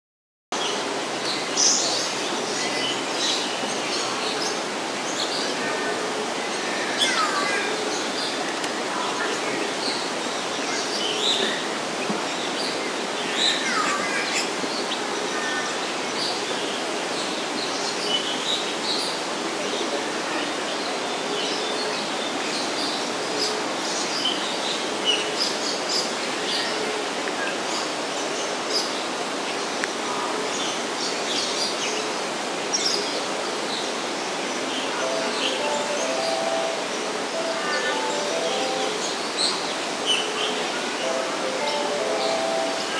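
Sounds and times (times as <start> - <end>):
steady background hiss: 0.6 - 42.9.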